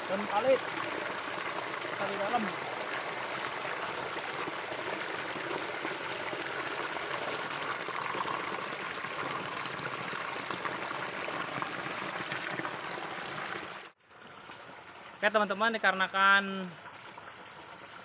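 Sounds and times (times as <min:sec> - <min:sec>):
stream pouring over rocks: 0:00.0 - 0:18.0.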